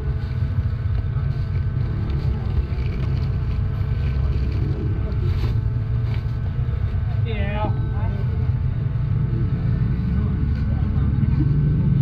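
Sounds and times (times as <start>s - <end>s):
faint crowd voices: 0.0s - 12.0s
low rumble: 0.0s - 12.0s.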